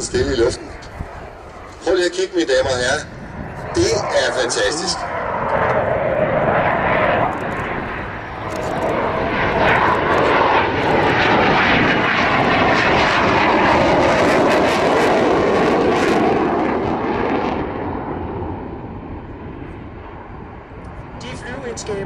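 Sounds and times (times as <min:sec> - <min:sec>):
jet engine passing low: 0:00.0 - 0:22.0.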